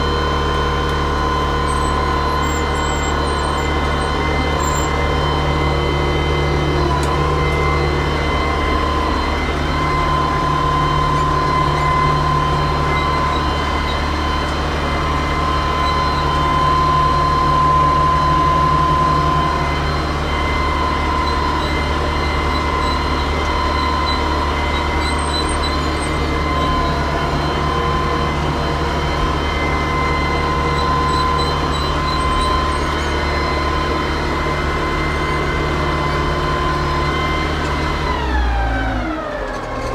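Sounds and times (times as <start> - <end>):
high whine: 0.0 - 38.1
tractor diesel engine droning: 0.0 - 39.9.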